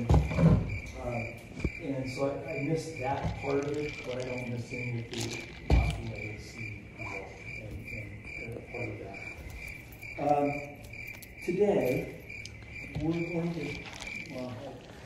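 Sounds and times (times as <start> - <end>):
man speaking: 0.0 - 9.5, 10.2 - 10.8, 11.4 - 12.3, 12.9 - 15.0
high repeating chirp: 0.0 - 15.0.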